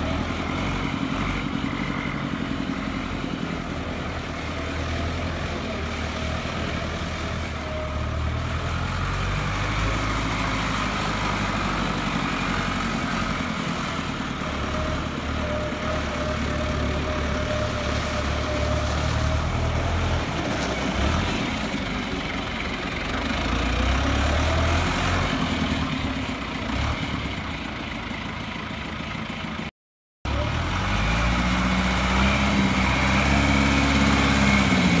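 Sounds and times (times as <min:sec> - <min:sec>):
tractor diesel engine running: 0:00.0 - 0:29.7, 0:30.3 - 0:35.0.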